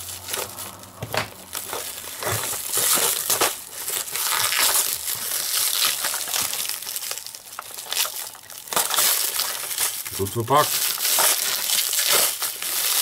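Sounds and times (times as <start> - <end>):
cling film crinkling: 0.0 - 13.0.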